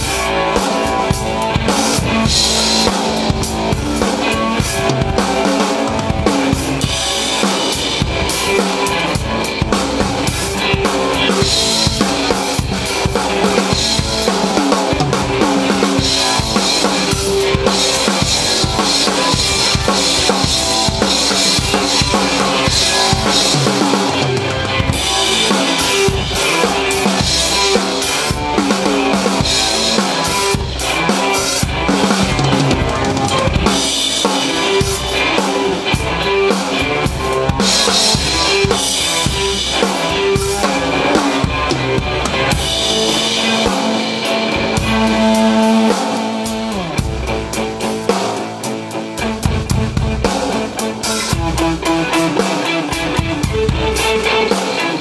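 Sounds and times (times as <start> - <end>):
drum kit playing a beat: 0.0 - 55.0
electric guitar playing: 0.0 - 55.0.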